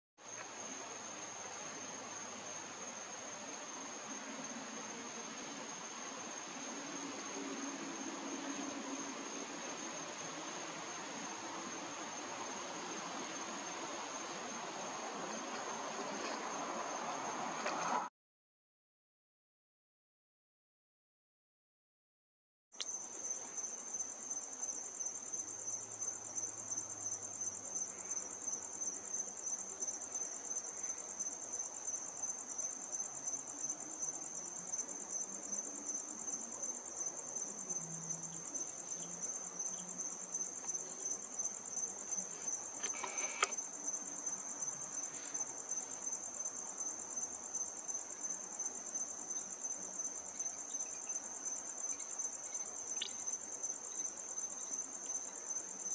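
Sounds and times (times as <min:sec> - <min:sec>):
crickets chirping: 0:00.2 - 0:18.1, 0:22.8 - 0:55.9.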